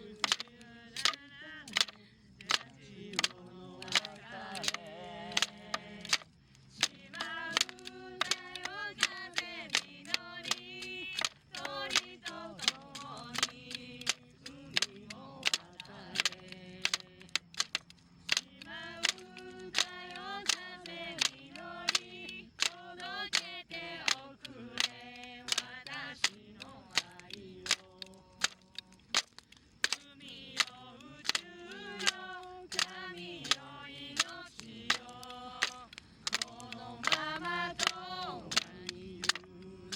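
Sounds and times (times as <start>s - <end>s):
hands clapping a beat: 0.0s - 39.8s
voices singing unaccompanied: 0.0s - 39.9s.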